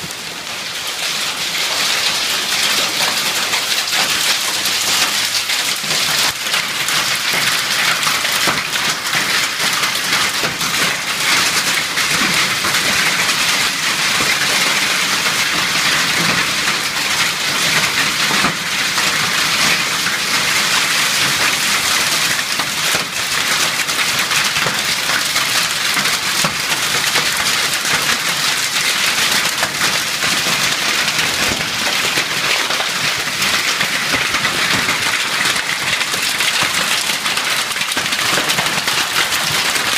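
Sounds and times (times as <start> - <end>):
hail and heavy rain: 0.0 - 39.9.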